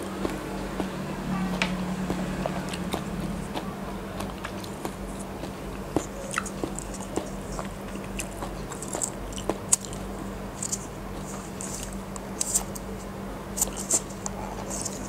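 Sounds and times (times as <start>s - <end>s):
low steady hum: 0.0s - 15.0s
soft chewing: 0.0s - 15.0s.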